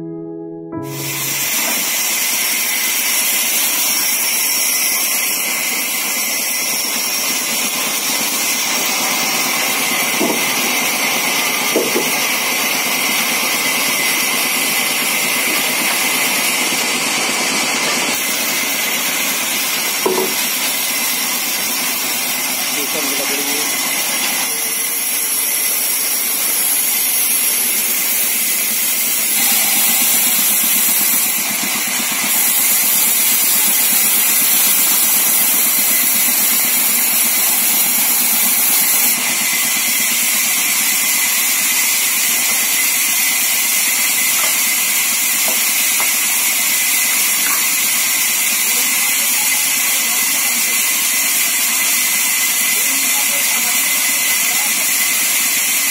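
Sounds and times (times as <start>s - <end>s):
band saw whirring: 0.7s - 55.9s.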